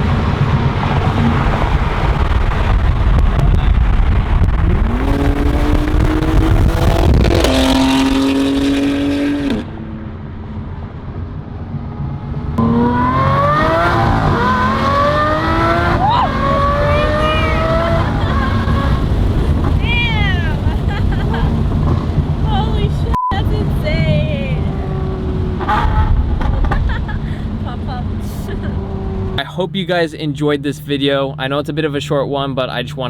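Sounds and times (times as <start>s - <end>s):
sports car engine accelerating: 0.0s - 33.0s.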